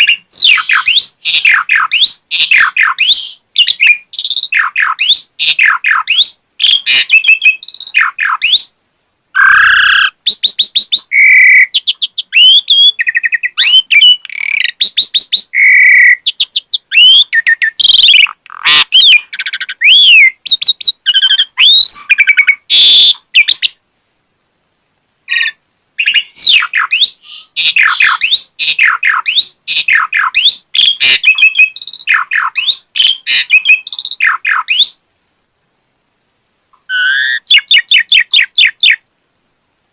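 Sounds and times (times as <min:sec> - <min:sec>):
starling singing varied song: 0:00.0 - 0:08.7, 0:09.4 - 0:23.8, 0:25.3 - 0:35.0.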